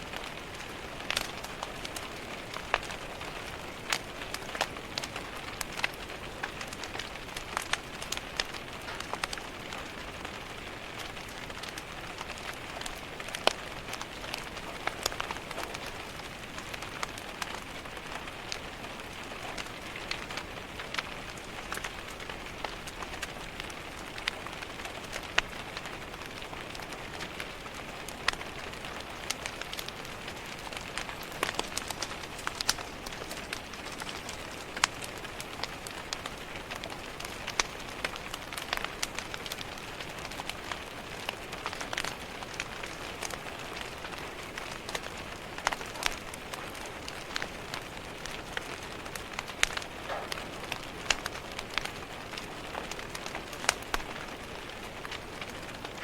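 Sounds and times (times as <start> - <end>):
rain pattering on a window: 0.0 - 56.0
wood fire crackling: 0.0 - 56.0.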